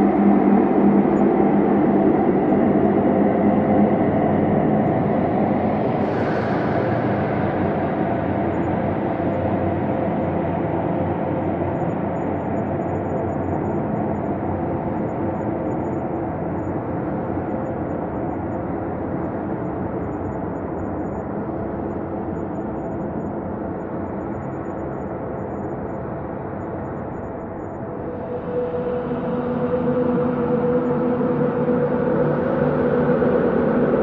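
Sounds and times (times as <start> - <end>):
dark ambient drone: 0.0 - 34.0.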